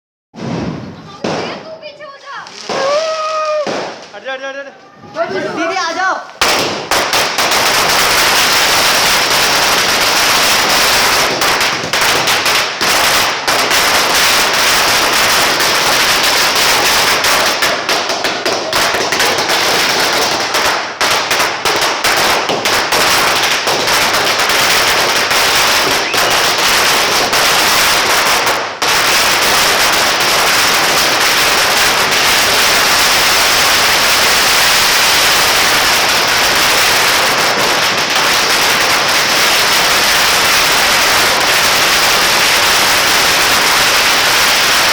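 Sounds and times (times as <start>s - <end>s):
firecrackers crackling: 0.4s - 44.9s.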